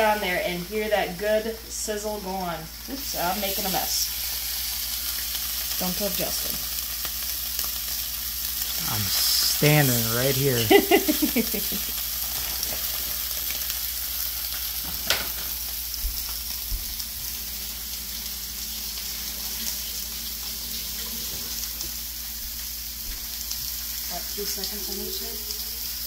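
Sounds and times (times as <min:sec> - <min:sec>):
fish fillets sizzling in a pan: 0:00.0 - 0:26.0.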